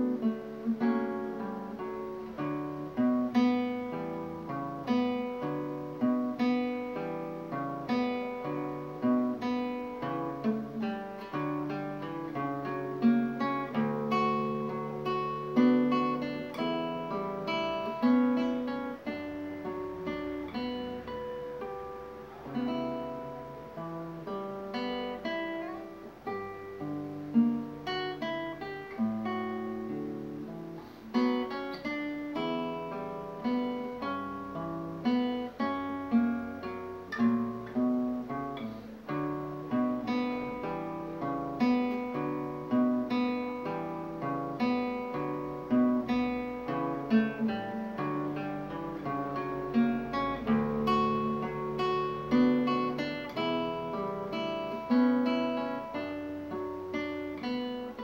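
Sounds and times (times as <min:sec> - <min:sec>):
fingerpicked classical guitar: 0:00.0 - 0:58.0.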